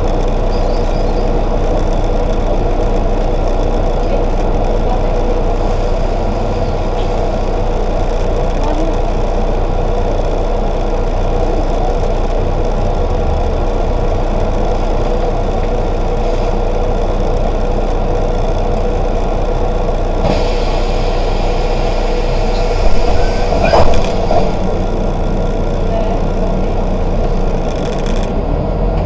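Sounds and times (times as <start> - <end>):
bus engine and road hum: 0.0 - 29.0.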